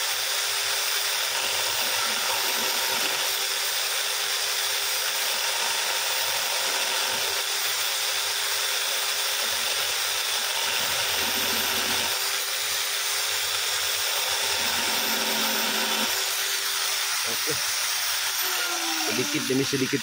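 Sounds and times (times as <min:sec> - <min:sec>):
electric drill grinding metal: 0:00.0 - 0:20.0.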